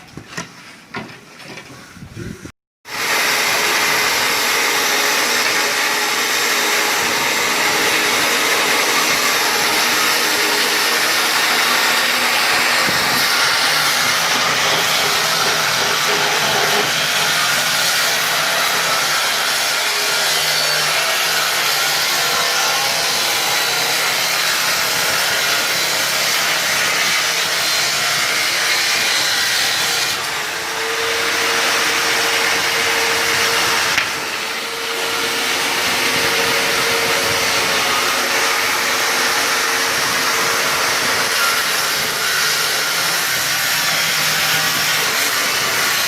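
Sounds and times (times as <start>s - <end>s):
power tool running on wood: 2.9s - 46.0s.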